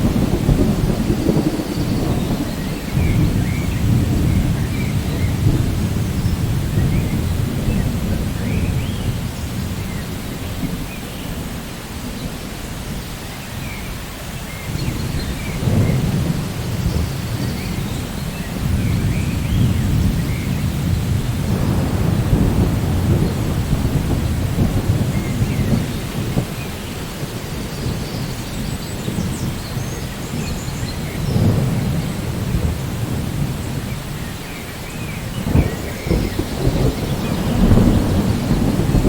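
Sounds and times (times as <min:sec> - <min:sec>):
low rolling thunder: 0:00.0 - 0:39.0
steady rain: 0:00.0 - 0:39.0.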